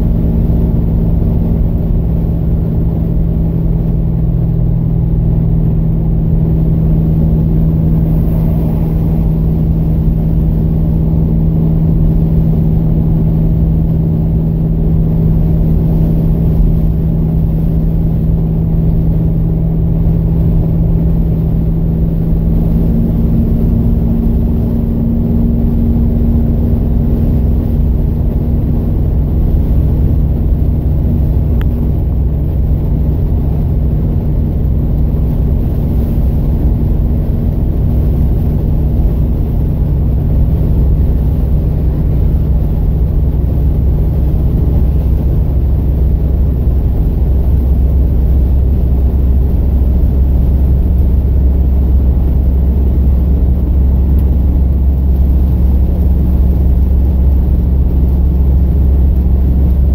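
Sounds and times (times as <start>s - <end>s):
car engine and road noise drone: 0.0s - 59.9s.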